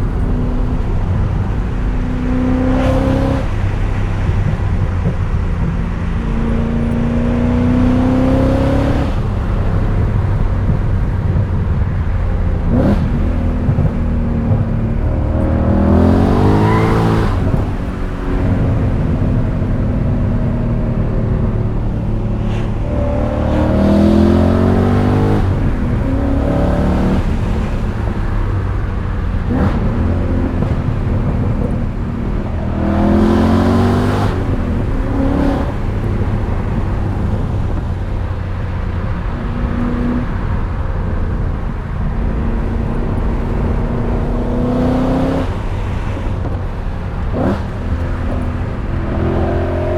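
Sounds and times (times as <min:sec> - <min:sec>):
car engine accelerating hard: 0:00.0 - 0:49.9.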